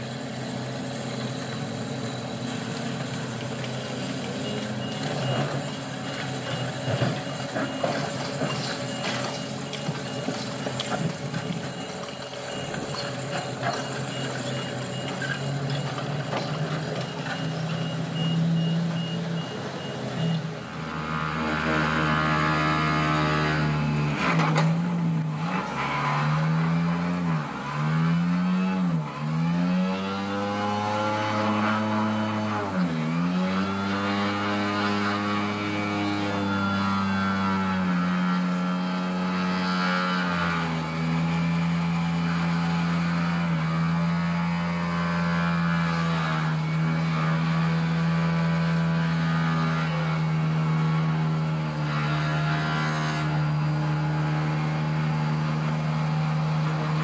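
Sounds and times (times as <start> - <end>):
diesel excavator engines running: 0.0 - 57.0.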